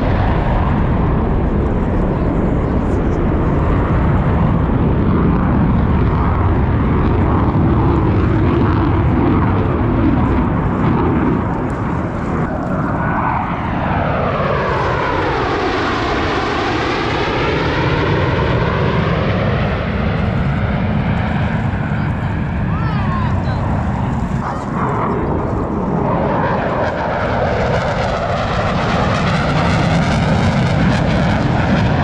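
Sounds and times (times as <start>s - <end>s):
jet passing close by: 0.0s - 32.0s
loud jet noise: 0.0s - 32.0s.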